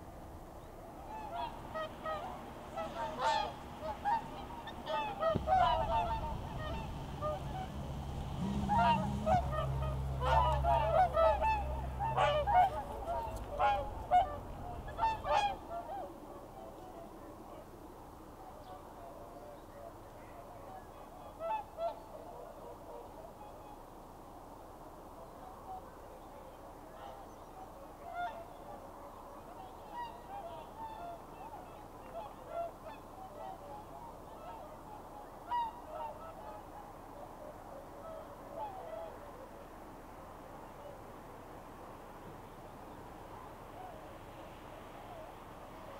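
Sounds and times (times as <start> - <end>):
swans honking: 0.0 - 17.7, 18.3 - 23.9, 25.4 - 39.8.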